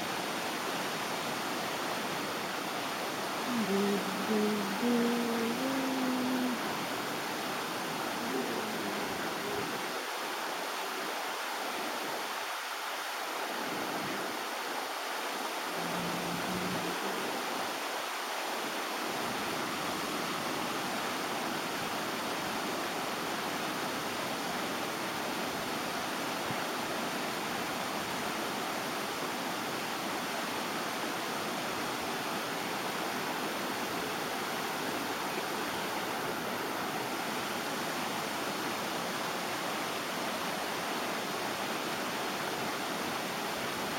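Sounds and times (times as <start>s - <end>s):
river water cascading: 0.0s - 43.9s.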